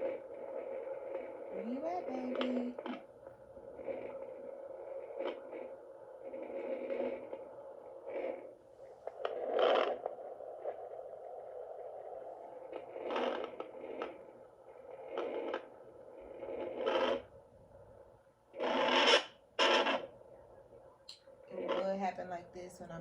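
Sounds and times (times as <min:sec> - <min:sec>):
scratchy crackles of probe: 0:00.0 - 0:17.4, 0:18.5 - 0:23.0
static hiss from speaker: 0:00.0 - 0:23.0.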